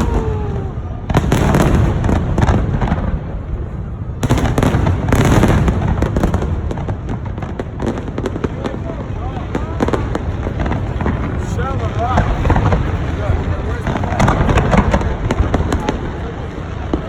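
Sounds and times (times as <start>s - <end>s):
fireworks rumbling and crackling: 0.0s - 17.0s.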